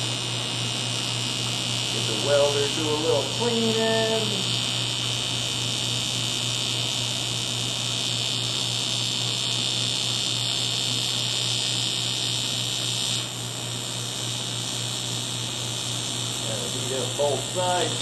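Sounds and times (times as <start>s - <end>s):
welding arc buzzing: 0.0s - 18.0s.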